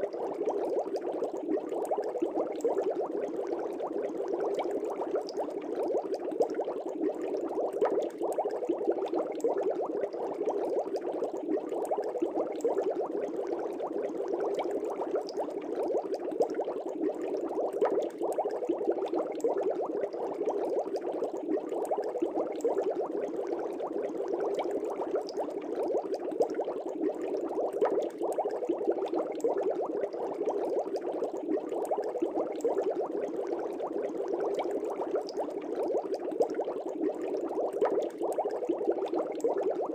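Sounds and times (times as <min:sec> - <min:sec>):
air bubbling in fish tank: 0:00.0 - 0:39.9.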